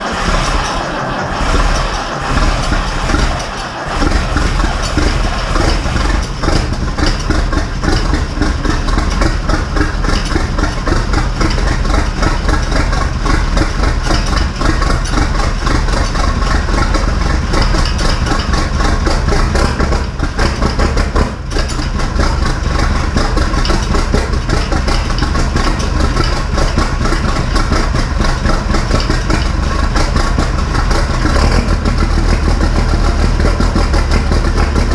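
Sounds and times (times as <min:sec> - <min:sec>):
tractor diesel engine starting: 0:00.0 - 0:34.9.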